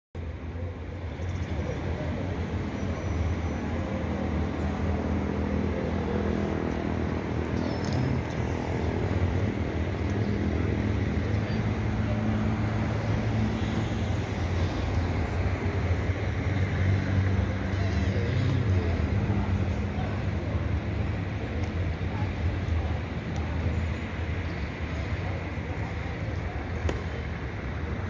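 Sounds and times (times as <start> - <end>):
city traffic rumble: 0.2 - 28.0.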